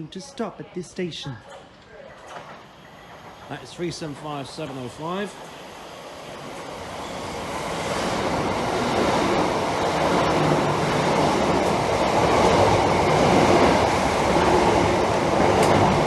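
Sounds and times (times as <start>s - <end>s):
electric train passing at speed: 2.4s - 16.0s.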